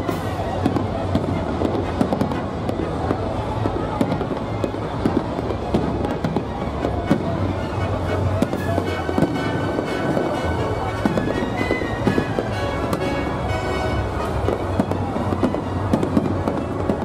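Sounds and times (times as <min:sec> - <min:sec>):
music playing: 0:00.0 - 0:17.0.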